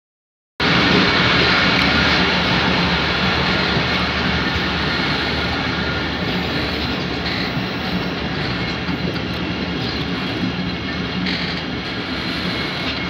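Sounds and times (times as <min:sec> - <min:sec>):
low engine drone: 0:00.6 - 0:13.0
train wheels rumbling: 0:00.6 - 0:13.0.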